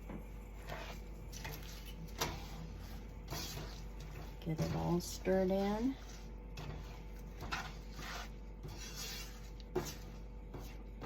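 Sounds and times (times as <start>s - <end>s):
spoon scraping saucepan: 0.6s - 10.8s.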